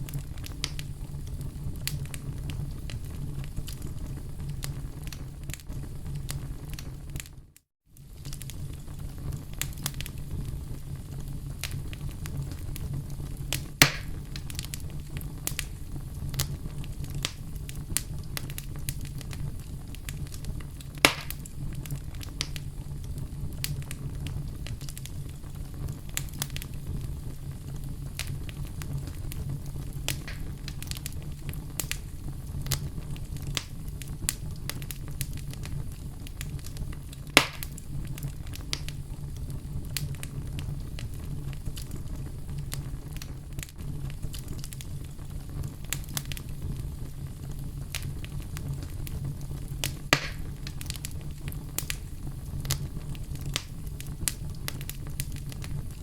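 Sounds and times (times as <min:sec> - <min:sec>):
loud sharp fire pops: 0:00.0 - 0:07.3, 0:08.0 - 0:56.0
campfire crackling: 0:00.0 - 0:56.0.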